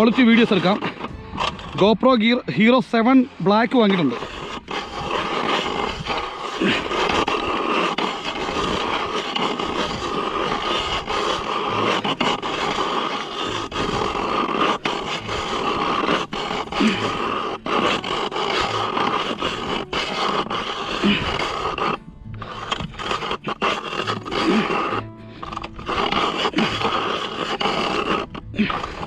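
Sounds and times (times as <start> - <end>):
ice auger grinding ice: 0.0 - 29.0.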